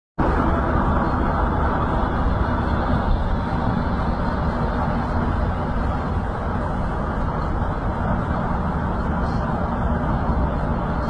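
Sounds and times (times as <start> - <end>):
vehicle road and engine noise: 0.2 - 11.0.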